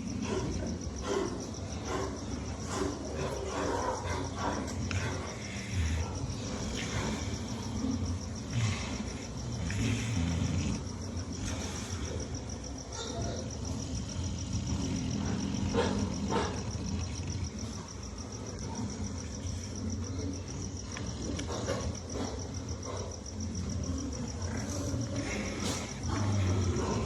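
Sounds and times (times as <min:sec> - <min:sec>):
pig snoring: 0:00.0 - 0:27.0.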